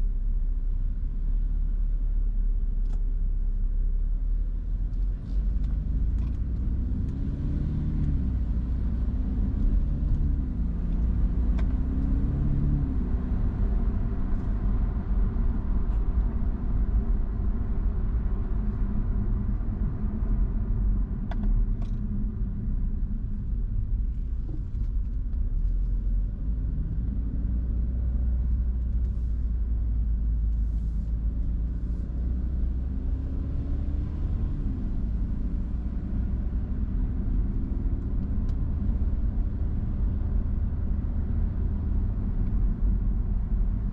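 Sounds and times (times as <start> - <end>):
car engine: 0.0 - 43.9
road rumble: 0.0 - 43.9.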